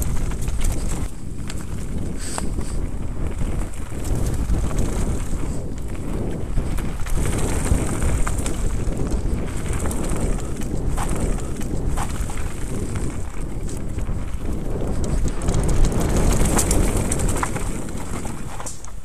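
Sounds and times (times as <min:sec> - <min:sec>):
bike tyres rumbling and rattling: 0:00.0 - 0:19.0.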